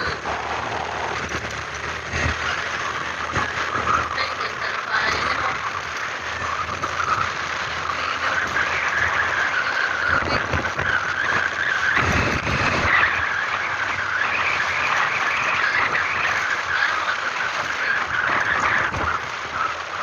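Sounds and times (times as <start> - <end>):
vehicle driving on rough road: 0.0 - 20.0.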